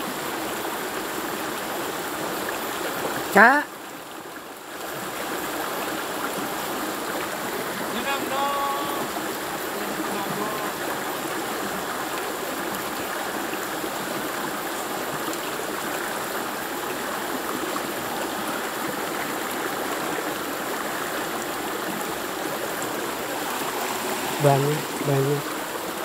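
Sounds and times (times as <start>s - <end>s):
stream flowing over stones: 0.0s - 26.0s.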